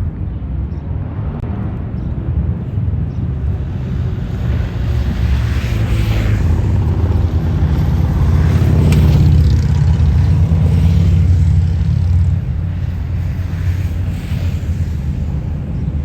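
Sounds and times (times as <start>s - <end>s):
large vehicle engine passing: 1.0s - 16.0s.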